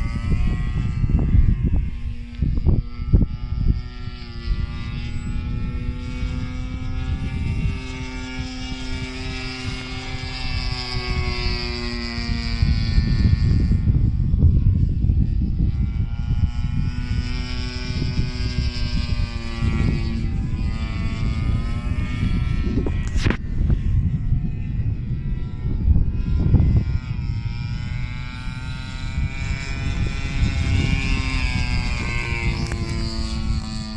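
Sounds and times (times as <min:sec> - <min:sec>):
model plane propeller droning: 0:00.0 - 0:33.9
wind rumbling on microphone: 0:00.0 - 0:33.9.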